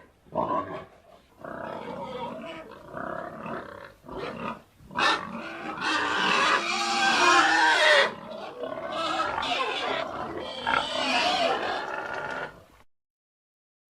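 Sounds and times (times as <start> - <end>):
pigs squealing: 0.4 - 12.6.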